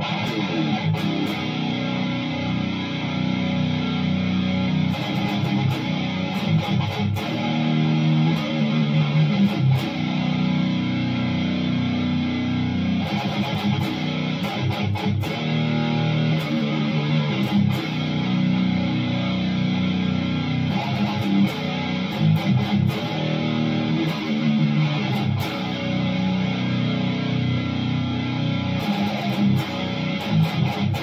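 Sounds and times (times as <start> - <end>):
distorted electric guitar riffs: 0.0 - 31.0.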